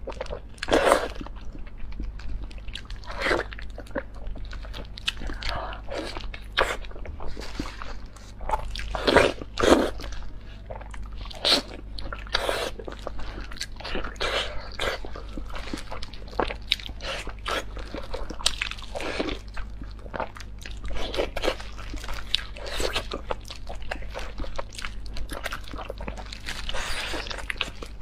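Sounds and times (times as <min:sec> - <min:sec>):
biting and chewing meat: 0:00.0 - 0:28.0.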